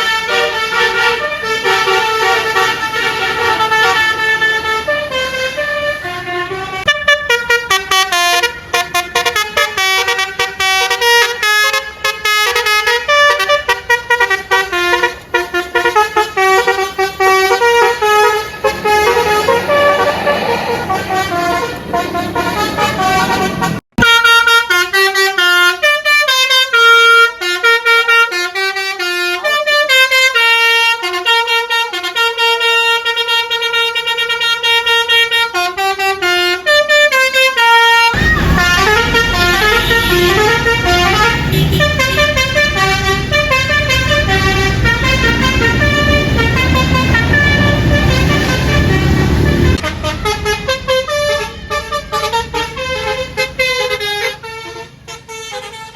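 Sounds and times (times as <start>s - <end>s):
musical bus air horn: 0.0s - 55.9s.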